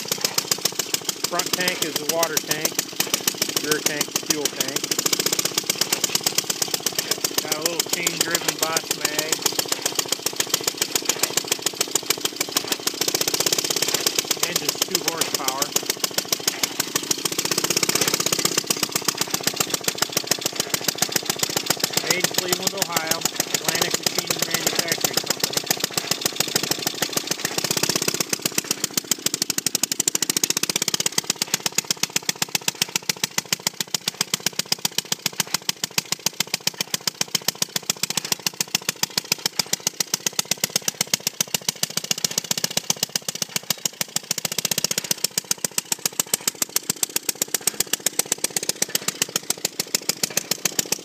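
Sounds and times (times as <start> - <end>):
two-stroke engine popping: 0.0 - 51.0.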